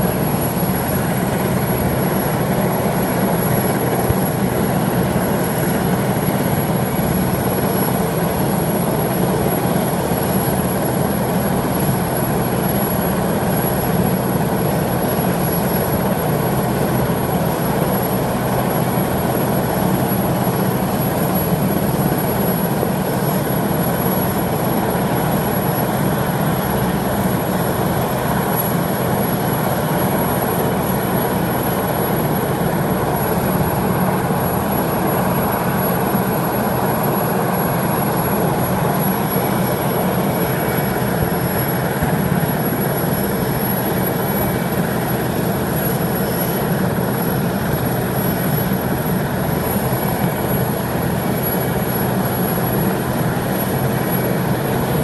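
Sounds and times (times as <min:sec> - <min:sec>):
faint high whine: 0:00.0 - 0:55.0
helicopter engines and rotors: 0:00.0 - 0:55.0.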